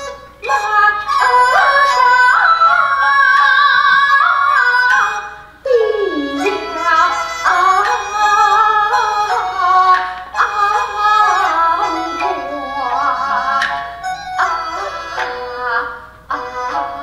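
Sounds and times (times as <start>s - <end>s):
flute melody with ensemble: 0.0s - 17.0s.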